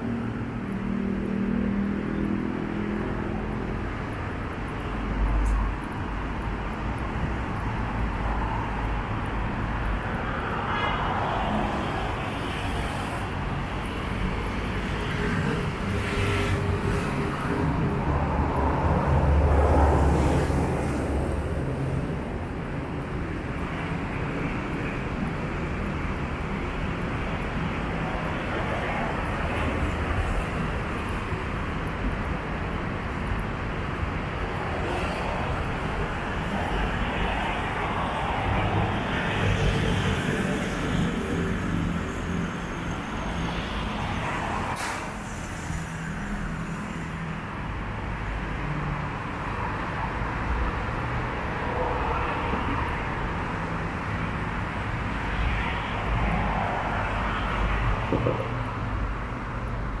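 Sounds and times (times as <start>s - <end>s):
cars passing: 0.0s - 60.0s.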